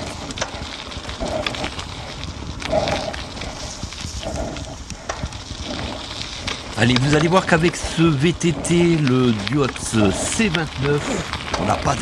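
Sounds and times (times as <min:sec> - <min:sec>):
cyclist breathing hard: 0:00.0 - 0:06.8, 0:07.8 - 0:11.8
tyres rolling on gravel: 0:00.0 - 0:12.0.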